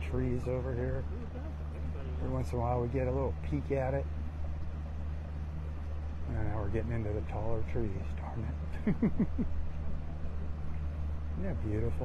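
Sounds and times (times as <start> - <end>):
boat engine humming: 0.0 - 12.0
wind and water hiss: 0.0 - 12.0.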